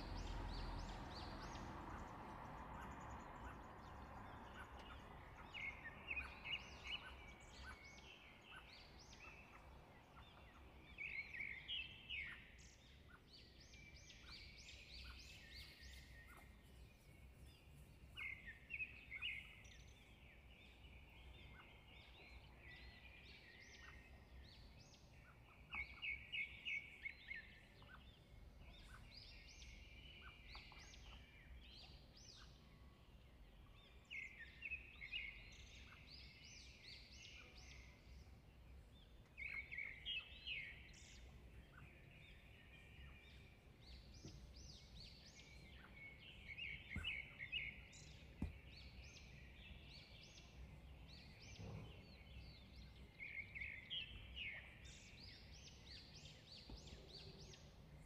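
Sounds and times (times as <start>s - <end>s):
faint bird chirping: 0.0s - 58.0s.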